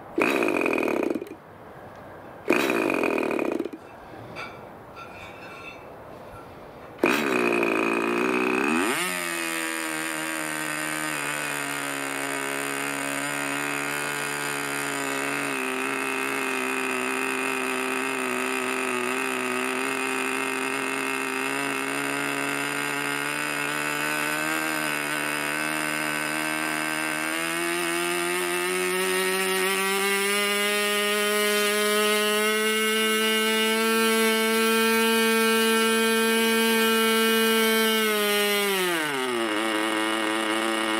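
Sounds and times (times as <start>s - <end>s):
electric starter cranking: 0.0s - 1.4s, 2.5s - 3.8s, 7.0s - 40.9s
model aero engine running: 7.0s - 40.9s.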